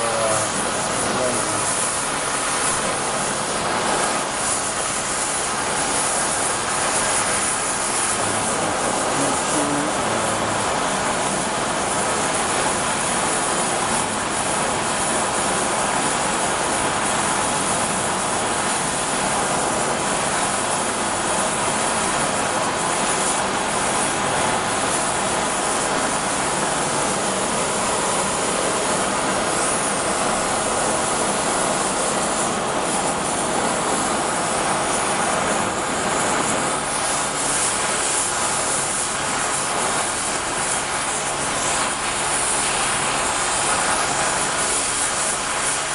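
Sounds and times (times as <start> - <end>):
torch flame hissing: 0.0 - 45.9.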